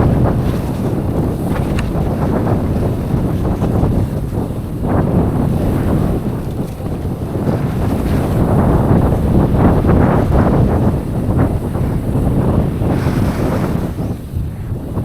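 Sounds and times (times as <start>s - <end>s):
bike rumbling and rattling on trail: 0.0s - 15.0s
wind buffeting microphone: 0.0s - 15.0s.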